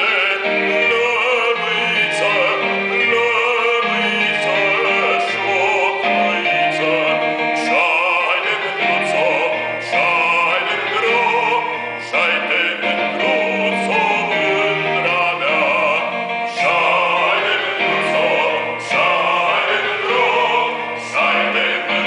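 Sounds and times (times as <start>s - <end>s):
digital piano: 0.0s - 22.0s
man singing operatically: 0.0s - 22.0s.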